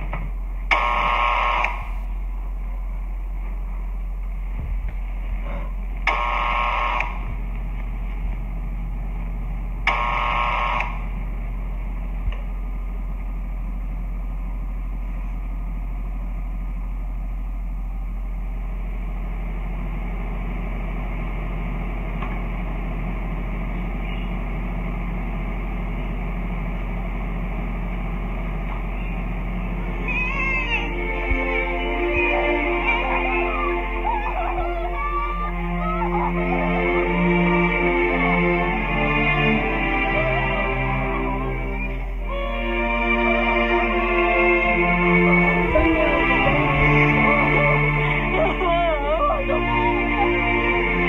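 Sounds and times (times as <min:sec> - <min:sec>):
low hum and hiss: 0:00.0 - 0:51.0.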